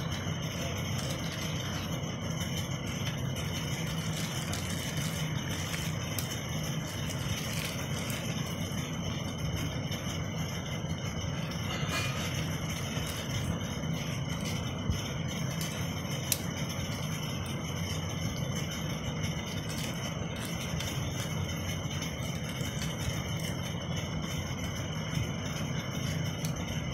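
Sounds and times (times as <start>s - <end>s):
low hum: 0.0s - 26.9s
plastic wrapping crinkling: 0.0s - 26.9s.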